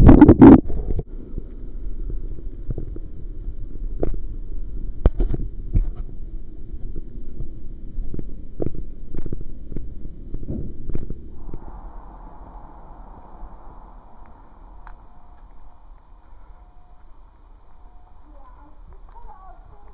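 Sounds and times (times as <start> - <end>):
low steady rumble: 1.0 - 19.9.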